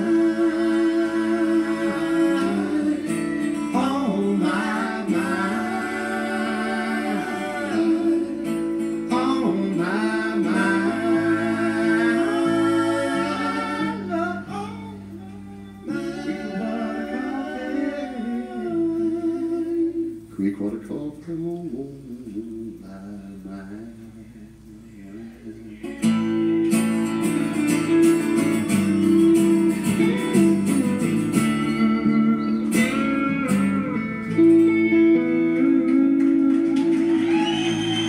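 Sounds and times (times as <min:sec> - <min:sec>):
man singing: 0:00.0 - 0:25.7, 0:32.7 - 0:38.0
acoustic guitar: 0:00.0 - 0:38.0.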